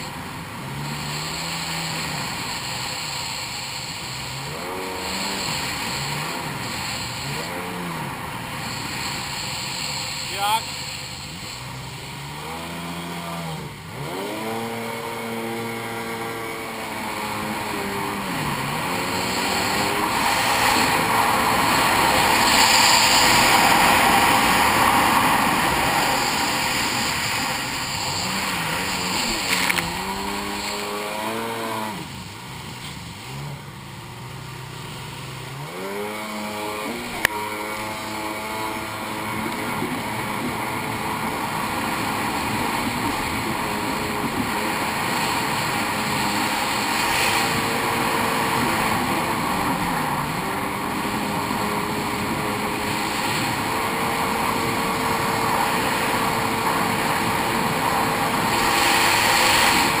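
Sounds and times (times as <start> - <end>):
water spray rushing: 0.0 - 33.5, 34.2 - 60.0
jet ski engine revving: 0.0 - 60.0
wind: 0.0 - 60.0.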